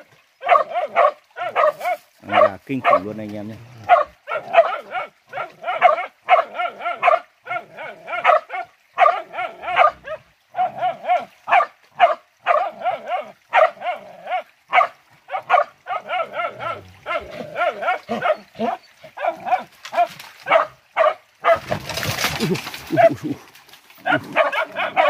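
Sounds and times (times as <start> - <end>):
dog barking rapidly: 0.4 - 3.1, 3.8 - 22.2, 24.0 - 25.0.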